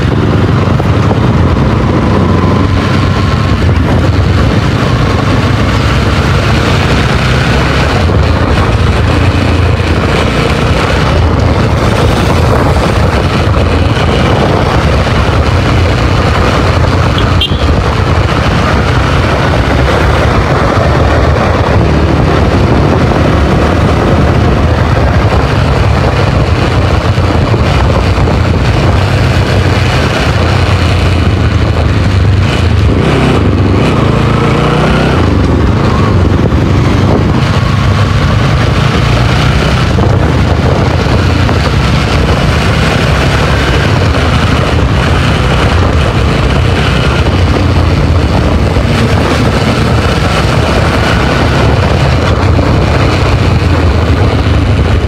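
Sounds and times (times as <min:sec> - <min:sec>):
motorcycle engine at speed: 0:00.0 - 0:55.0
wind noise on microphone: 0:00.0 - 0:55.0.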